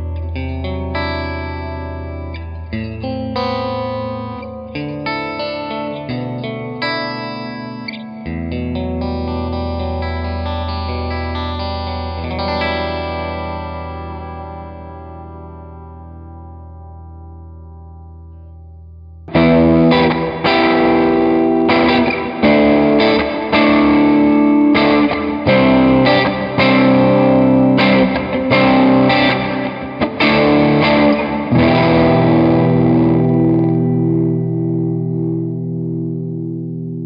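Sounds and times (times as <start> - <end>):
electric guitar with reverb: 0.0 - 37.0.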